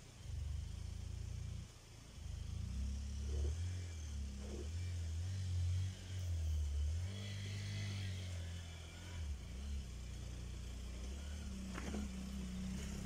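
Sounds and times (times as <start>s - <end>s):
motorcycle engine climbing: 0.0s - 13.0s.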